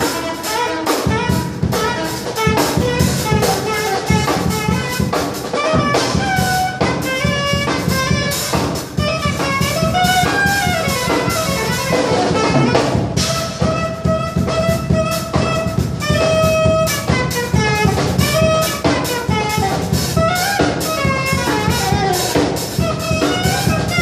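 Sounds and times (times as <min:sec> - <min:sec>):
saxophone jazz melody: 0:00.0 - 0:24.0
steady drum beat: 0:00.0 - 0:24.0.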